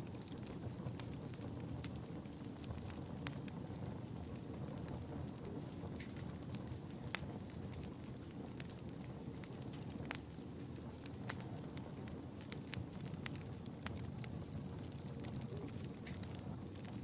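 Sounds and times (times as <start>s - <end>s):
fire crackling and popping: 0.0s - 17.0s
fire flame rushing: 0.0s - 17.0s.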